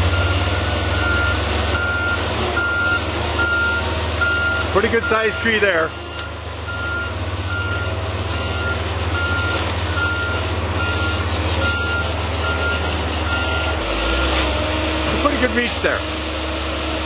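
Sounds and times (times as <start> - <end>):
diesel engine drone: 0.0 - 17.0
backup alarm beeping: 0.1 - 14.3.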